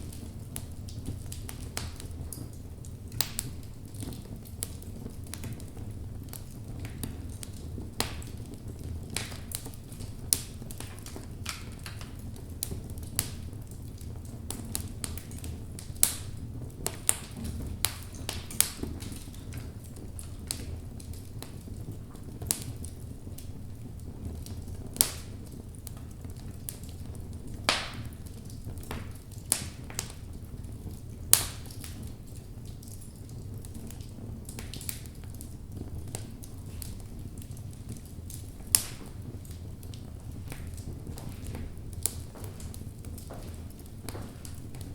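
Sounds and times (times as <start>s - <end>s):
flames rumbling: 0.0s - 44.9s
wood crackling and popping: 0.0s - 44.9s.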